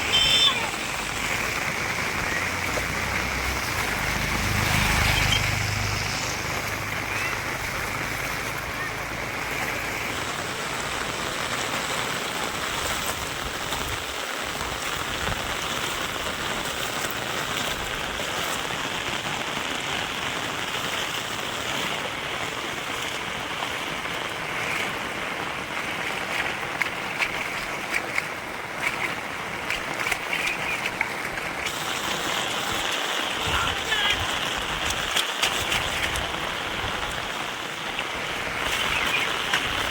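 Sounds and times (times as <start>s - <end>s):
drips and splashes: 0.0s - 39.9s
rain falling: 0.0s - 39.9s.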